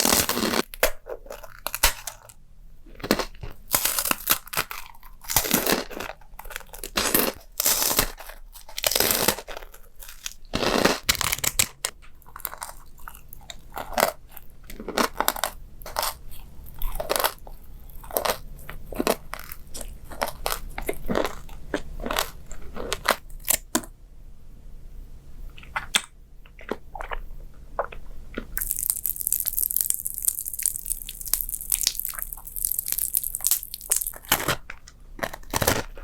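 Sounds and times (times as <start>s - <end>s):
person chewing crunchy food: 0.0s - 23.9s, 25.5s - 36.0s.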